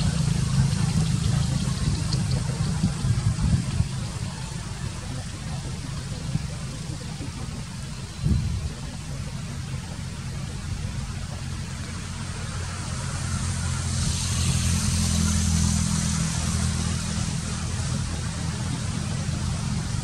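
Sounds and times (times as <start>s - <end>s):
road noise hiss: 0.0s - 20.0s
vehicle engine rumble: 0.0s - 20.0s.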